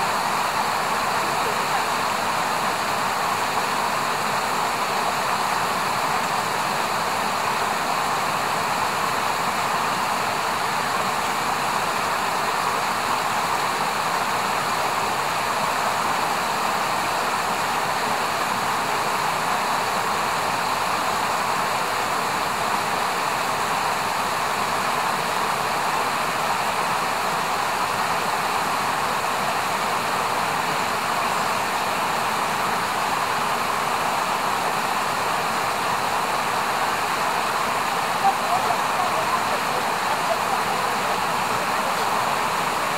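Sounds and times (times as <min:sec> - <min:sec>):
river flowing: 0:00.0 - 0:42.9.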